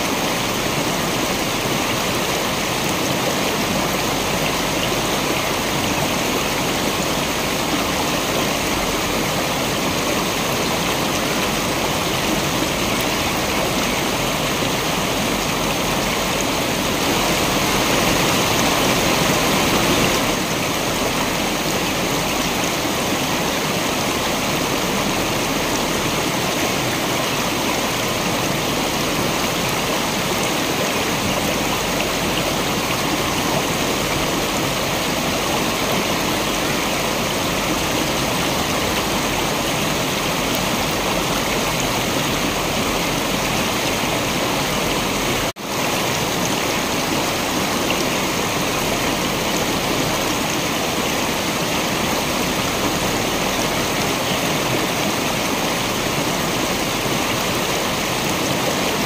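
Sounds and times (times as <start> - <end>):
waterfall rushing into a stream: 0.0 - 59.0.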